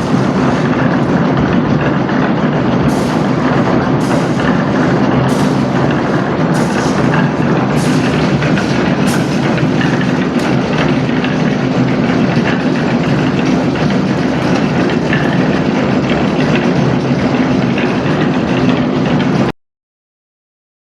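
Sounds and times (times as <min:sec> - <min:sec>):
machinery engine running: 0:00.0 - 0:19.5.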